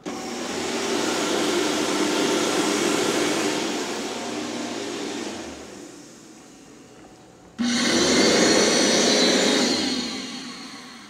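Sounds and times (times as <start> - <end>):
hand dryer air rush: 0.0 - 6.9, 7.6 - 11.0.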